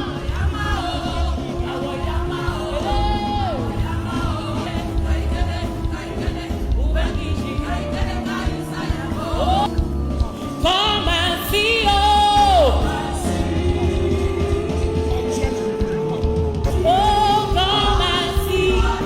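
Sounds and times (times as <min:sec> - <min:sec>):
band playing: 0:00.0 - 0:19.0
gospel singing: 0:00.0 - 0:19.0.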